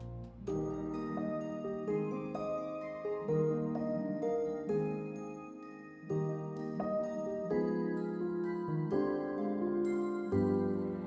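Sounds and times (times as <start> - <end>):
soft slow instrumental music: 0.0 - 11.0.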